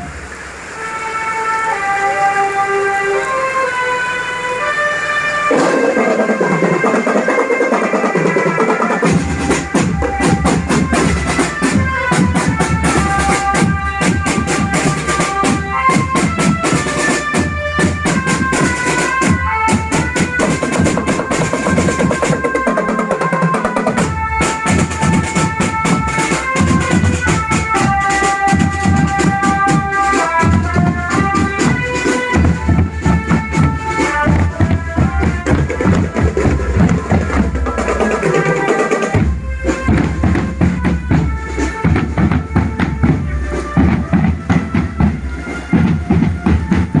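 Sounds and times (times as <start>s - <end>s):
marching band playing: 0.0s - 47.0s
bass and snare drums beating: 5.5s - 47.0s.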